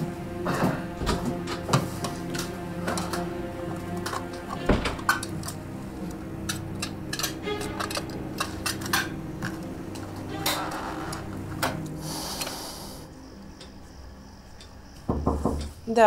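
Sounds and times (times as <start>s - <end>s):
low steady background tone: 0.0s - 16.0s.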